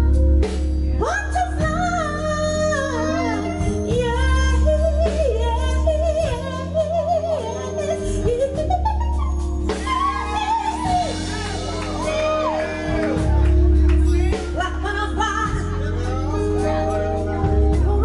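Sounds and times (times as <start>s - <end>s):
woman singing live: 0.0s - 11.3s, 14.3s - 18.0s
band with keyboard guitar drums: 0.0s - 18.0s.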